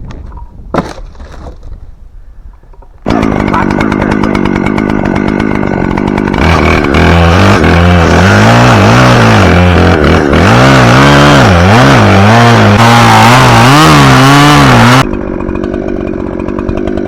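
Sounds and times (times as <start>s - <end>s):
chainsaw engine revving: 3.0s - 17.0s.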